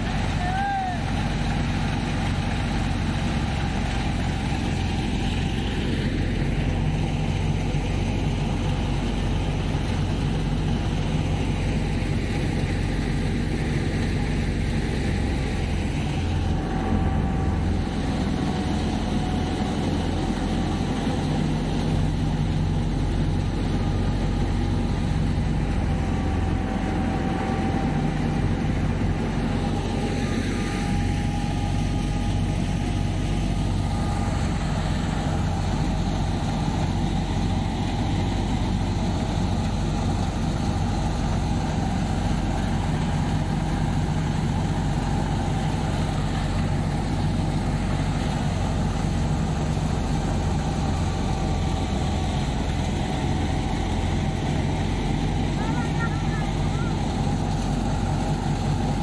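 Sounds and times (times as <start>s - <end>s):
tractor engine and thresher drone: 0.0s - 59.0s.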